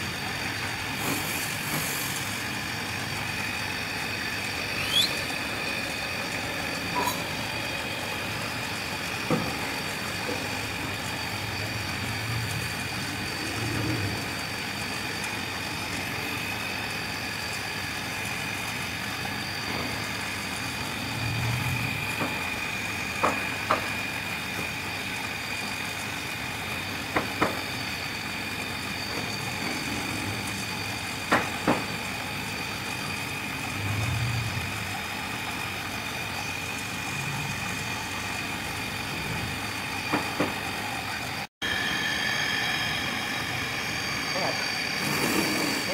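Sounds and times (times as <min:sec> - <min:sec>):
wood lathe motor whine: 0:00.0 - 0:45.9.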